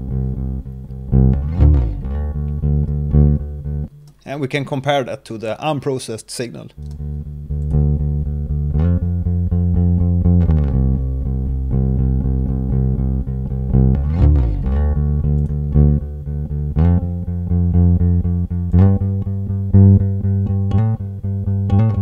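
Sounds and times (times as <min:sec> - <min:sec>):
electric bass guitar line: 0:00.0 - 0:04.1, 0:06.8 - 0:22.0.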